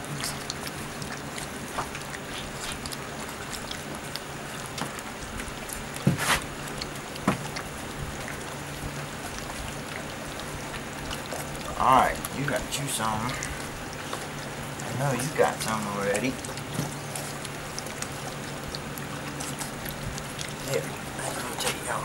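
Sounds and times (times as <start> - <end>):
puppies lapping and slurping: 0.0 - 22.0.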